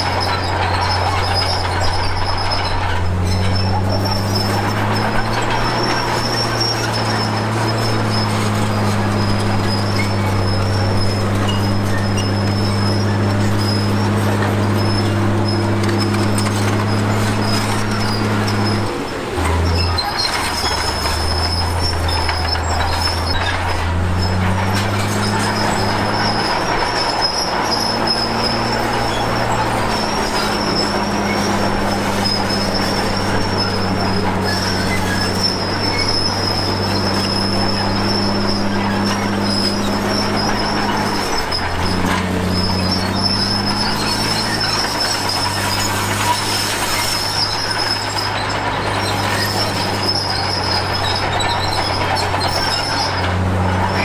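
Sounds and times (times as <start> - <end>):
diesel engine under load: 0.0 - 54.0
high squeal from tracks: 0.0 - 54.0.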